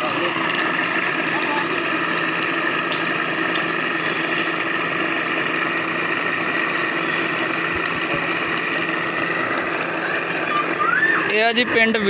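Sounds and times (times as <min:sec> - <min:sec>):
electric water pump humming: 0:00.0 - 0:12.0.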